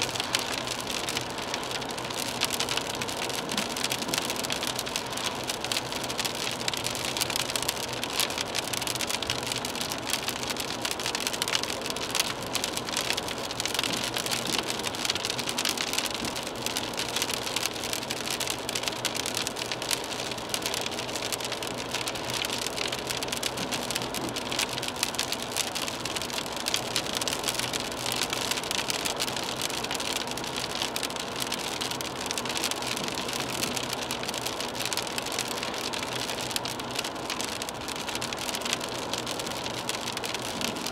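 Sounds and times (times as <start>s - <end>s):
rain pattering on windshield: 0.0s - 40.9s.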